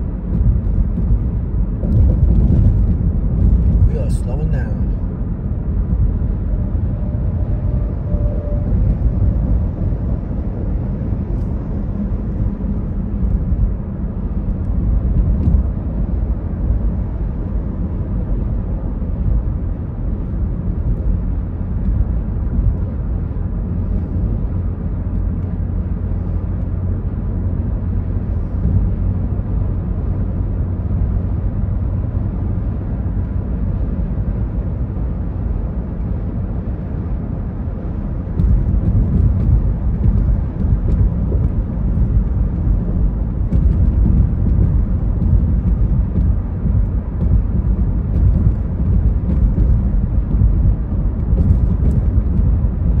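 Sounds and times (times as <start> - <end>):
car tyres and engine rumble: 0.0 - 53.0.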